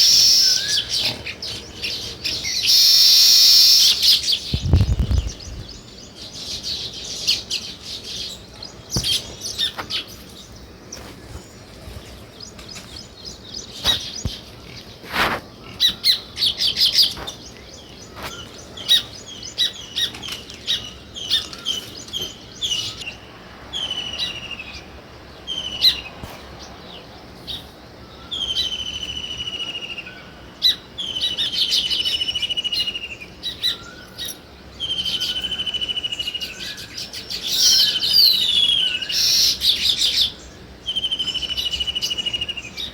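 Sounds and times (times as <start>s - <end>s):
drawn-out falling bird calls: 0.0s - 42.9s
sparrows chirping: 0.0s - 42.9s.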